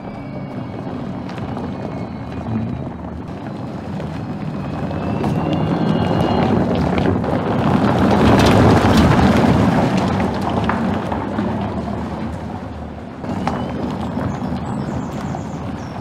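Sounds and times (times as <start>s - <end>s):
tyres crunching over cobbles: 0.0s - 16.0s.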